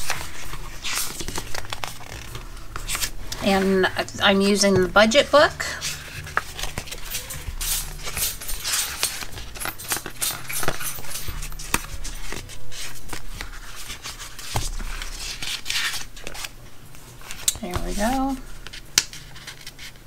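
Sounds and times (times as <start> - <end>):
paper pages rustling: 0.0 - 20.0.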